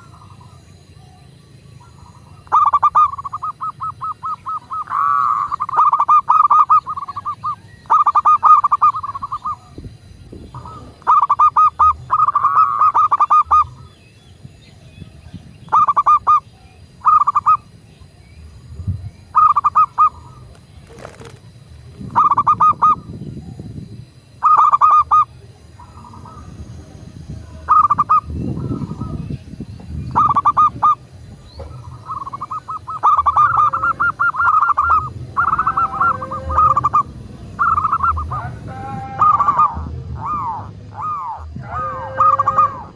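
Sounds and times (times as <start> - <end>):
low background rumble: 0.0 - 42.9
dove cooing: 1.8 - 9.8, 10.5 - 14.0, 15.7 - 17.7, 19.4 - 23.6, 24.4 - 26.7, 27.5 - 42.9.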